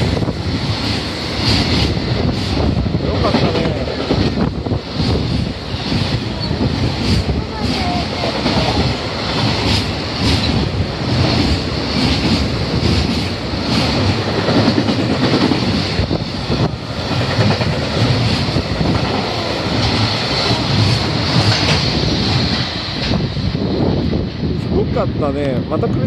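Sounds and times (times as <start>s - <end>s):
freight train rumbling past: 0.0s - 26.0s
wheels clacking over rail joints: 0.8s - 23.2s.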